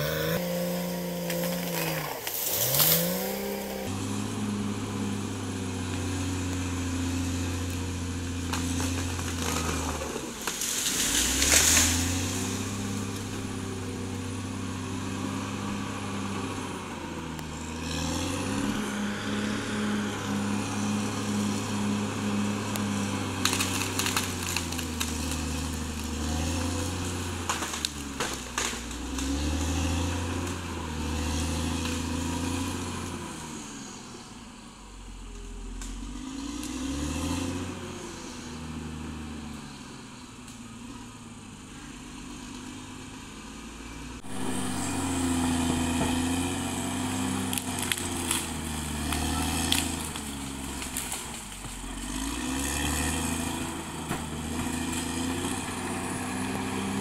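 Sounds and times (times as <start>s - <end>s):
bulldozer diesel engine working: 0.0s - 57.0s.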